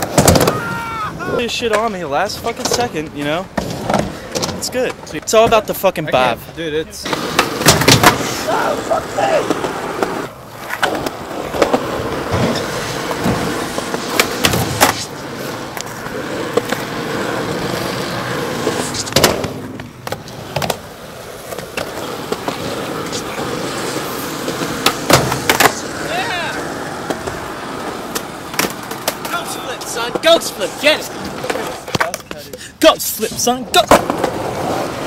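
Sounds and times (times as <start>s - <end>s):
skateboard wheels rolling on pavement: 0.0s - 35.0s
skateboard clacking on ground: 1.4s - 6.3s, 7.0s - 35.0s.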